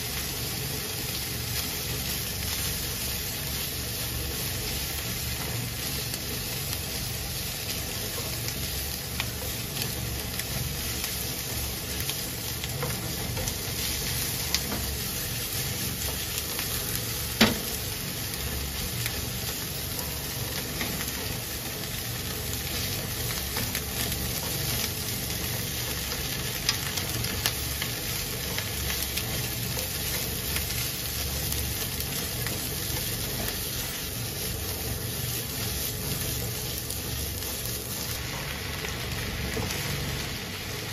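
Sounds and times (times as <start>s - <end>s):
food sizzling in frying pan: 0.0s - 40.9s.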